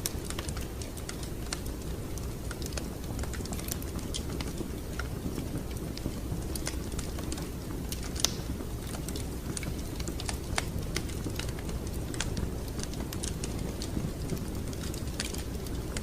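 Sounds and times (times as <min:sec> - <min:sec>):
low rumble of burning: 0:00.0 - 0:16.0
wood fire crackling: 0:00.0 - 0:16.0.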